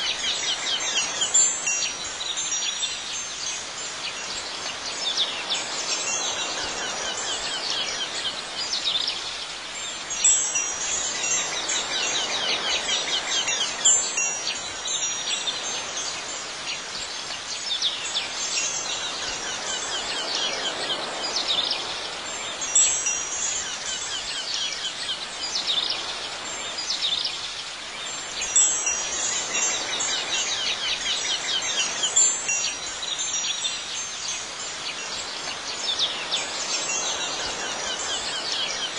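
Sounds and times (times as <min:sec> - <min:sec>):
steady background hiss: 0:00.0 - 0:38.9
wind chimes tinkling: 0:00.0 - 0:38.9.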